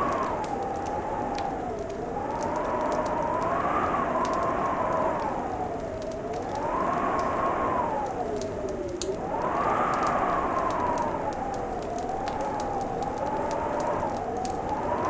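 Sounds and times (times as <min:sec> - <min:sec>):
fireplace crackling and popping: 0:00.0 - 0:15.0
howling wind whistle: 0:00.0 - 0:15.0.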